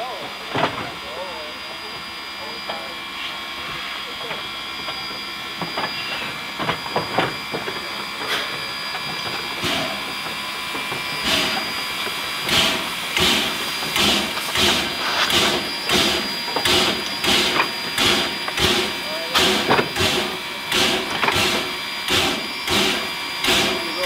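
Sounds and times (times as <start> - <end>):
steady high whine: 0.0 - 24.0
steam exhaust chuffs: 0.1 - 24.0.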